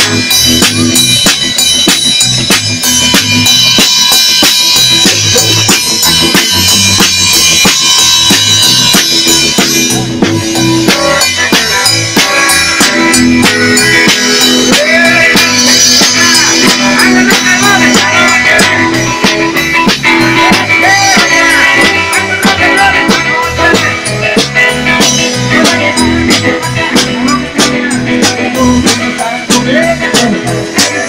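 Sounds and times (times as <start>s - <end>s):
electric guitar: 0.0s - 31.0s
steady drum beat: 0.0s - 31.0s
walking bass line: 0.0s - 31.0s.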